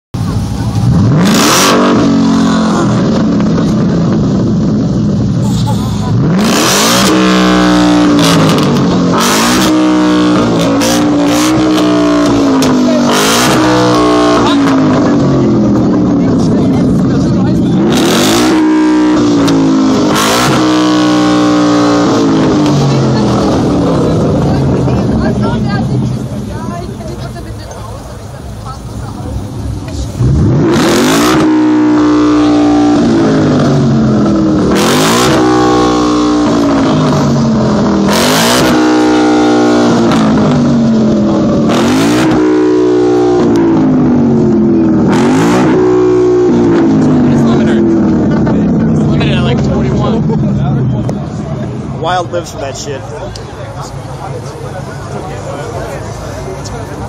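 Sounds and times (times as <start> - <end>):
car engine revving: 0.1 - 57.0.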